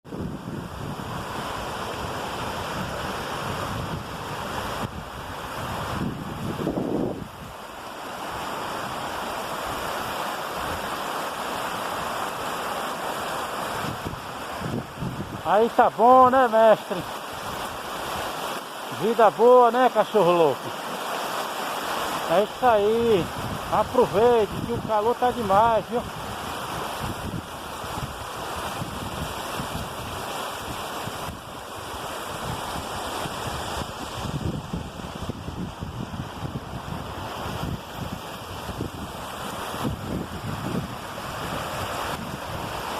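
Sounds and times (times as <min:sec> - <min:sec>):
wind on microphone: 0:00.0 - 0:11.0, 0:11.6 - 0:15.6, 0:22.8 - 0:42.9
waterfall roaring: 0:00.1 - 0:42.9.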